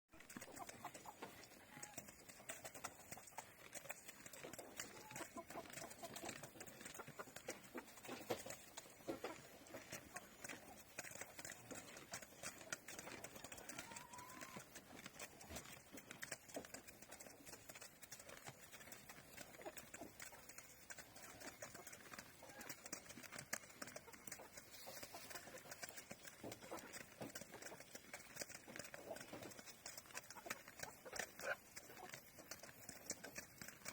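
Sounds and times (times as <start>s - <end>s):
chickens pecking on wood: 0.1s - 33.9s.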